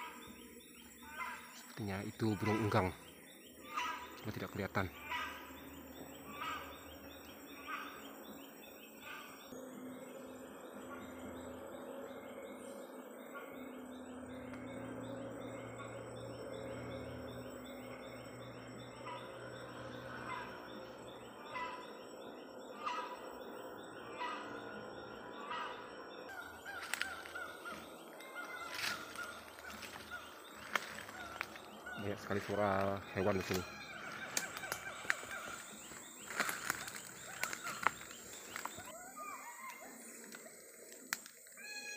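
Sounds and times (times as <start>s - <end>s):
birds chirping and calling: 0.0s - 41.9s.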